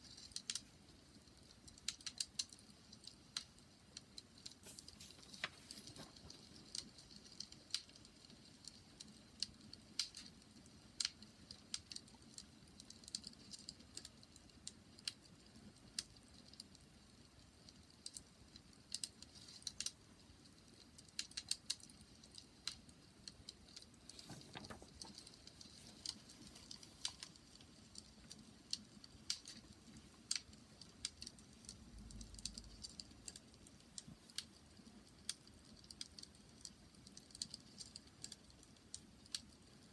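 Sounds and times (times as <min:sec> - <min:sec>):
low rumble of burning fire: 0:00.0 - 0:39.9
wood fire crackling: 0:00.0 - 0:39.9.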